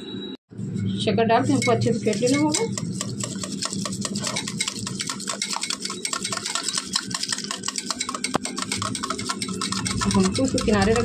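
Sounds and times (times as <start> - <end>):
whisk clicking against bowl: 1.5 - 11.0.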